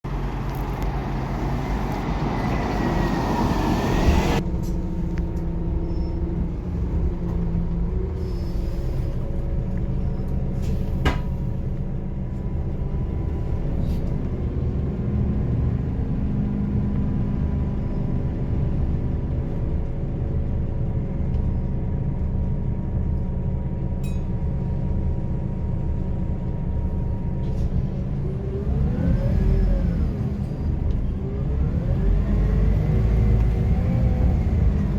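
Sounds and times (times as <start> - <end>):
bus engine low drone: 0.0 - 34.9.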